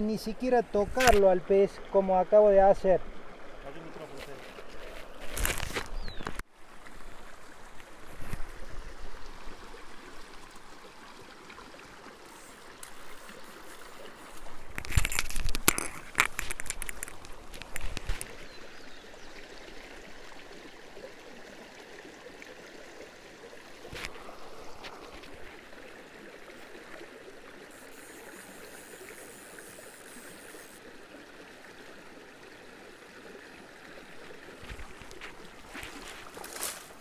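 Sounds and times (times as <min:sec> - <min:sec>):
river running over stones: 0:00.0 - 0:37.0.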